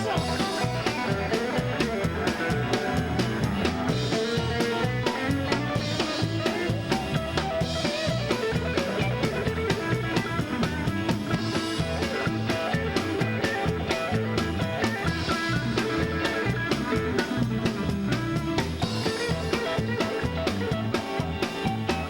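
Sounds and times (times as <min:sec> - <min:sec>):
drum kit beat: 0:00.0 - 0:22.0
guitars: 0:00.0 - 0:22.0.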